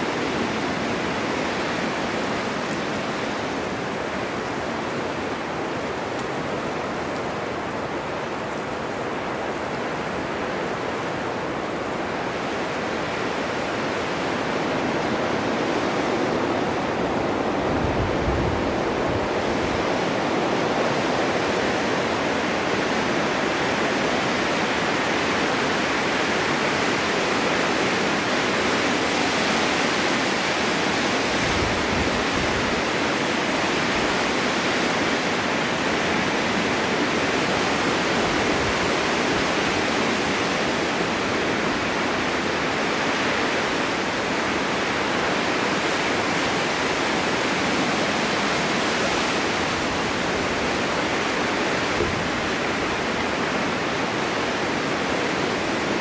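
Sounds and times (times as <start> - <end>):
strong wind blowing: 0.0 - 56.0.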